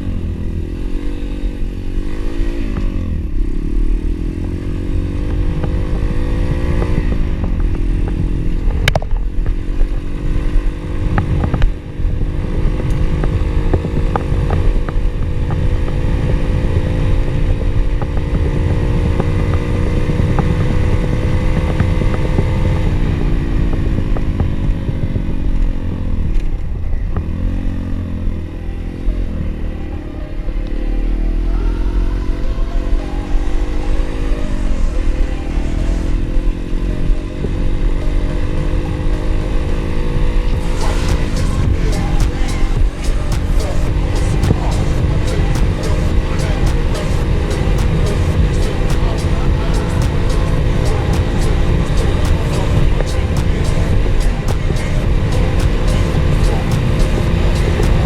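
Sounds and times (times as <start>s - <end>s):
motorbike engine running: 0.0s - 58.0s.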